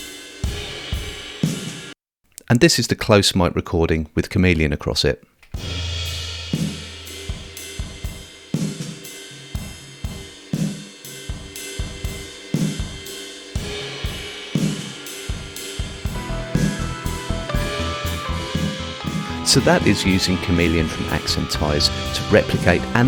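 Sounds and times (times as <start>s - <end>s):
drum kit playing groove: 0.0s - 2.0s, 5.5s - 23.0s.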